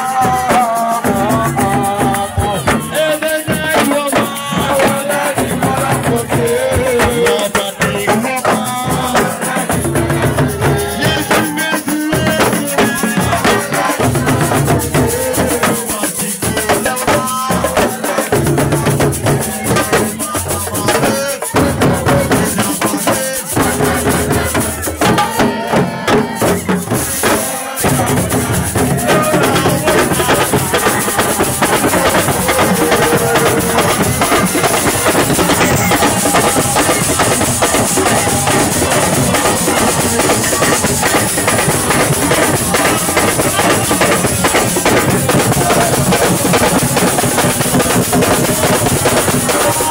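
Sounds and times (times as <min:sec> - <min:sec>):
shaker rattles: 0:00.0 - 0:25.6, 0:26.6 - 0:49.9
drum beat: 0:00.0 - 0:49.9.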